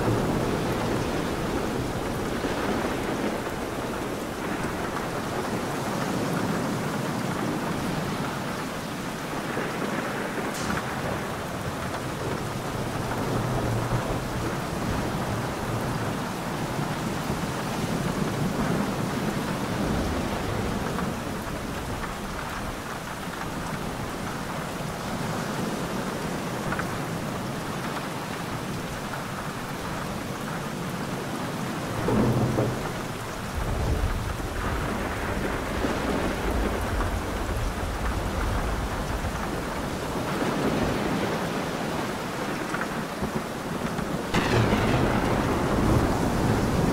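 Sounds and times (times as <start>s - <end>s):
low rolling thunder: 0.0s - 25.3s, 31.2s - 46.9s
steady rain falling: 0.0s - 46.9s.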